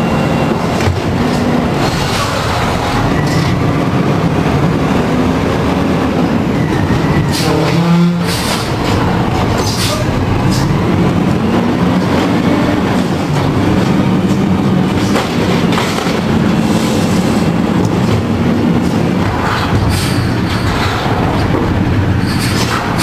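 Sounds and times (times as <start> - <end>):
garbage truck hydraulic arm drone: 0.0 - 23.0.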